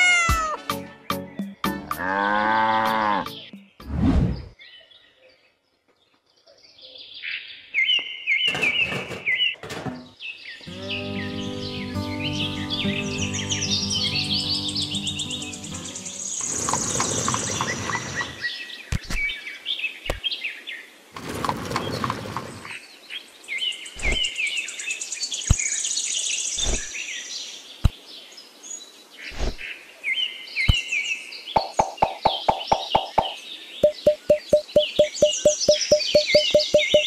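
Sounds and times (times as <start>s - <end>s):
birds chirping and trilling: 0.0s - 37.0s.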